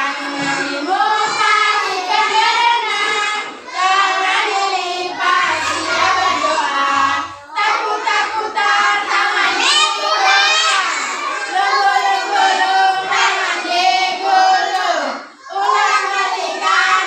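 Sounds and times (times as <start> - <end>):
young children singing: 0.0 - 17.0.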